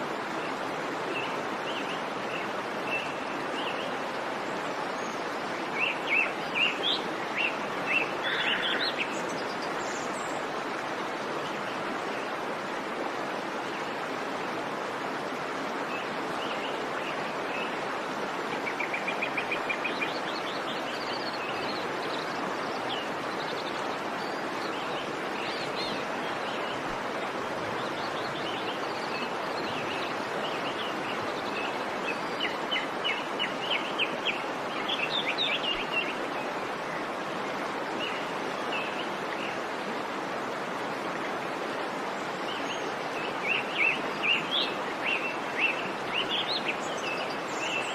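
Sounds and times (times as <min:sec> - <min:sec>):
wild birds chirping: 0:01.1 - 0:12.5, 0:15.9 - 0:39.8, 0:40.5 - 0:47.9.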